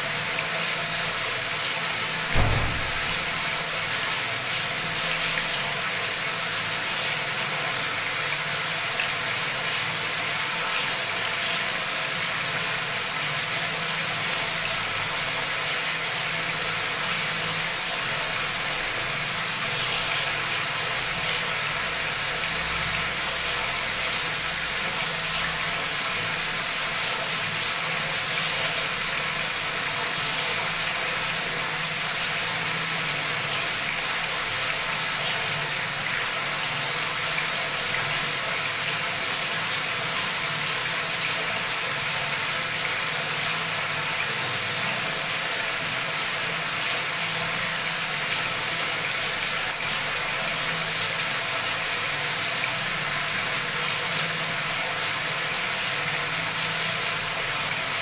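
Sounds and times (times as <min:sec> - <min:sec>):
tap water splashing into basin: 0:00.1 - 0:58.0.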